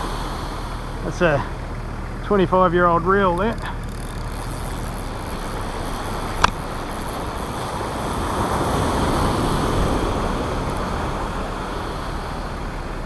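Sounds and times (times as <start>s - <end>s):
surf washing up beach: 0.0s - 3.6s, 5.1s - 13.0s
low rumble: 0.0s - 13.0s.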